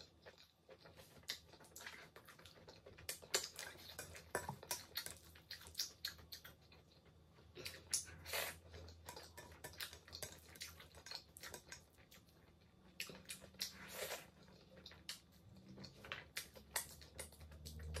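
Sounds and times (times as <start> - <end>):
wet chewing mouth clicks: 0.1 - 18.0.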